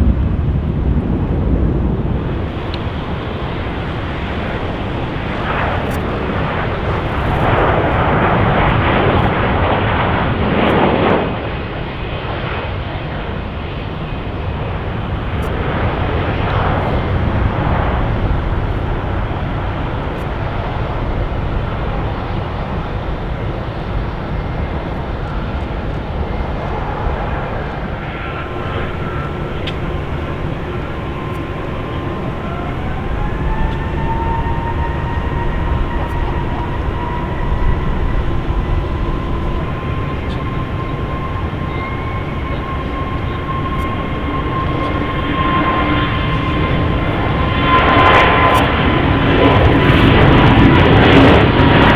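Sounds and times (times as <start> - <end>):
jet airliner engine rumble: 0.0 - 51.9
rising engine whine: 0.0 - 51.9.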